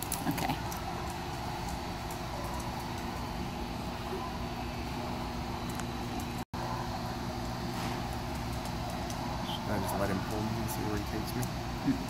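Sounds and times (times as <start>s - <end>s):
store interior hum and hiss: 0.0s - 12.0s.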